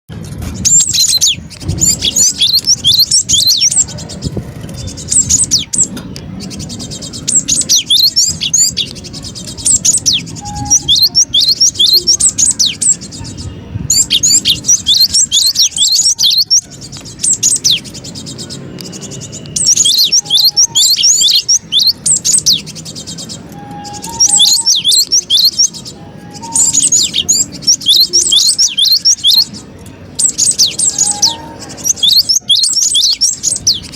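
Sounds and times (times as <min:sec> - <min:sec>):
bird calling in sharp bursts: 0:00.7 - 0:04.2, 0:04.8 - 0:29.6, 0:30.2 - 0:33.9.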